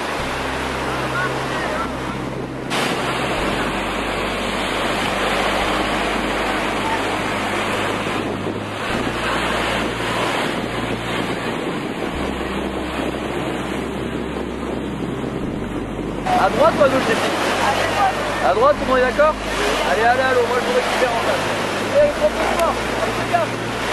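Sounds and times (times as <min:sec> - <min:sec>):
low rumble: 0:00.0 - 0:23.9
ocean surf: 0:00.0 - 0:23.9
wind buffeting microphone: 0:00.0 - 0:23.9.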